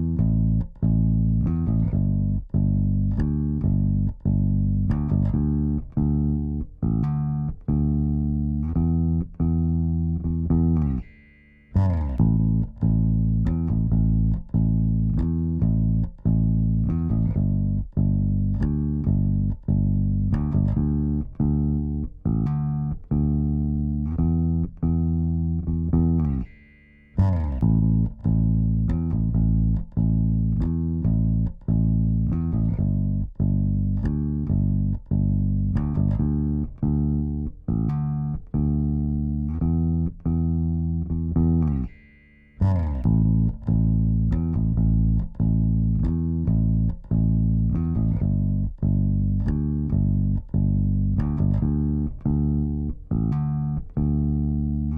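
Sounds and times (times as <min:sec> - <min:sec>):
bass guitar riff: 0:00.0 - 0:54.9.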